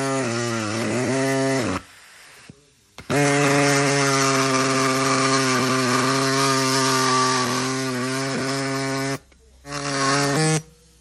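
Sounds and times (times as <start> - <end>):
air saw cutting steel pipe: 0.0 - 10.7.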